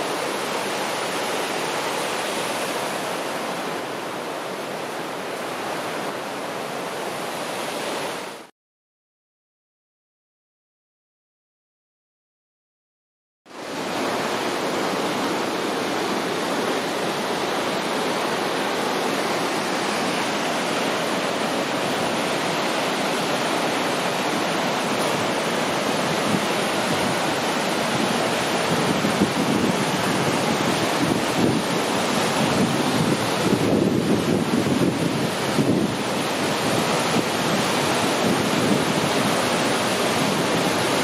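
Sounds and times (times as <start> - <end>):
waterfall rushing: 0.0 - 8.5, 13.5 - 41.0.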